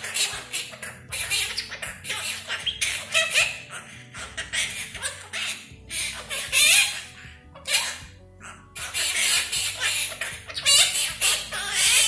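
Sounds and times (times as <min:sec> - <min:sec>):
parrots chattering and squawking: 0:00.0 - 0:12.0.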